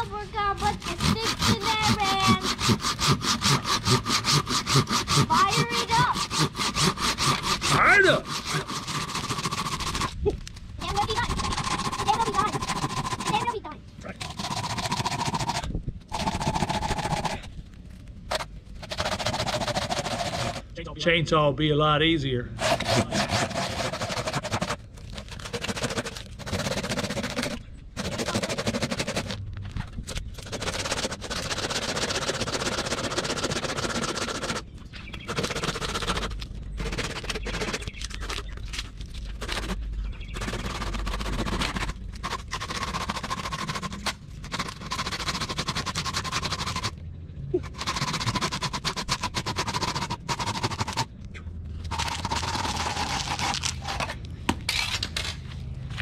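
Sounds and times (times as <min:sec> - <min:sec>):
hand saw rasping through log: 0:00.0 - 0:10.2, 0:10.8 - 0:17.5, 0:18.3 - 0:20.7, 0:22.6 - 0:29.4, 0:30.4 - 0:38.5, 0:39.1 - 0:47.0, 0:47.6 - 0:51.1, 0:51.9 - 0:54.2.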